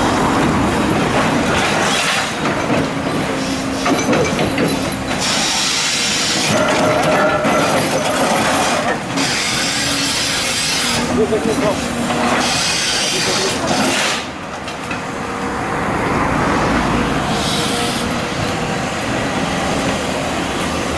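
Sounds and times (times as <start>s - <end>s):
excavator engine and hydraulics: 0.0s - 20.9s.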